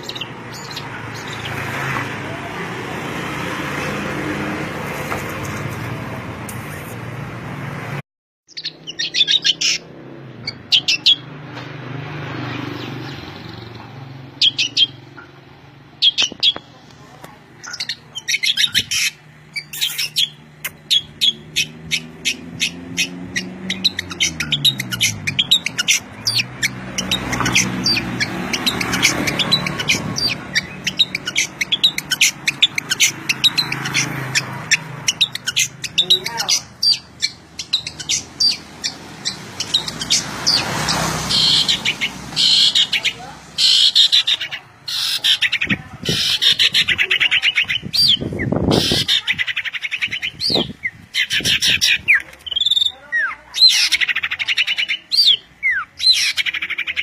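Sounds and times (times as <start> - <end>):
songbirds chirping: 0.0 - 6.9, 8.5 - 57.0.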